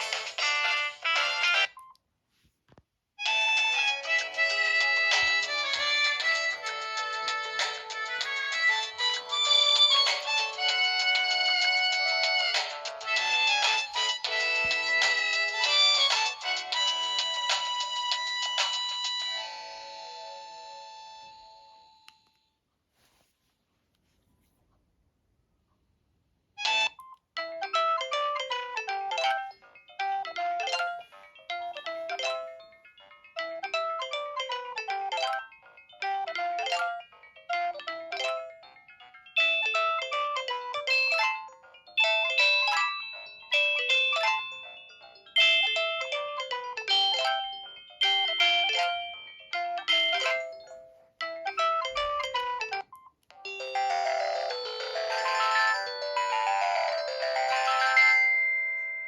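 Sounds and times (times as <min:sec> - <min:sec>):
phone ringtone melody: 0:03.2 - 0:22.3, 0:26.6 - 0:59.0.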